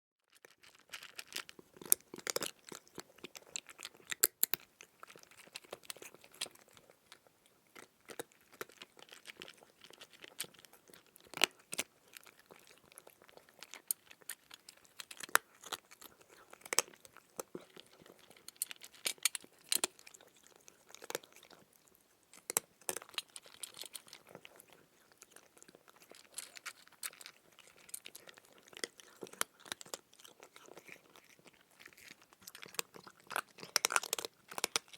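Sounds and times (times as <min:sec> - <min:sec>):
chewing crisp food: 0:00.3 - 0:34.9.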